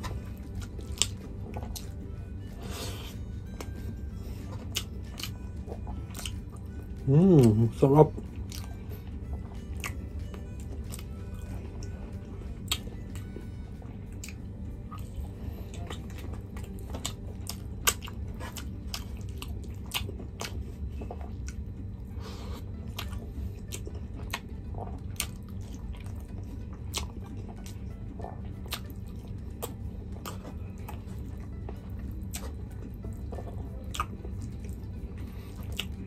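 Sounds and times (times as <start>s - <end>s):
low background hum: 0.0s - 36.0s
person chewing food: 0.0s - 36.0s.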